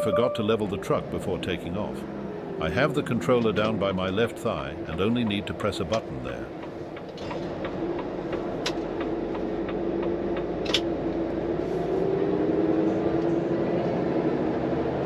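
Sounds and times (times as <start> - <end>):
truck diesel engine pulling: 0.0 - 15.0.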